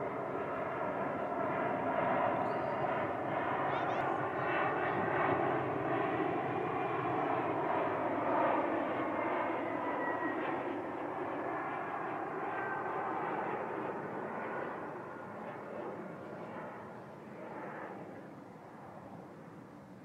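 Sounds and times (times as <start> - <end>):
jet aircraft flying past: 0.0 - 19.9.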